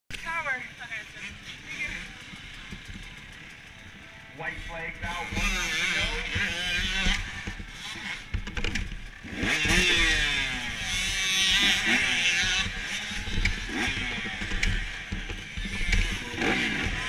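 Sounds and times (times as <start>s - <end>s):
motocross bikes revving: 0.1s - 17.0s.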